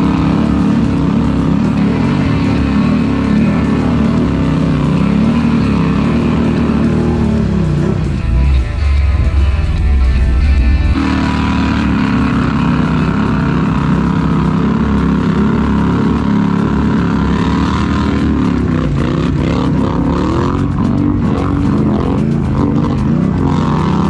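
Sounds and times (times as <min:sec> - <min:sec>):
atv engine running: 0:00.0 - 0:24.0
music: 0:00.0 - 0:24.0
water churning: 0:00.0 - 0:24.0.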